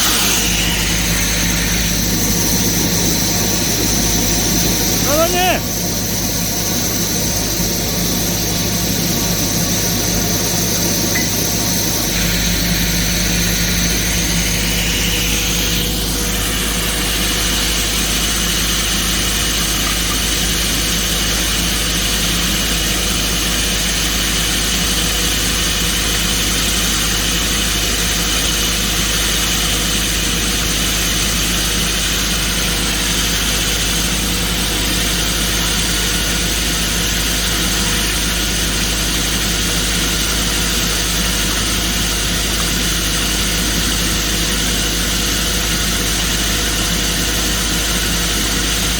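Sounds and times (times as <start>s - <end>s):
excavator engine and hydraulics: 0.0s - 48.9s
rock drill boring: 0.0s - 48.9s.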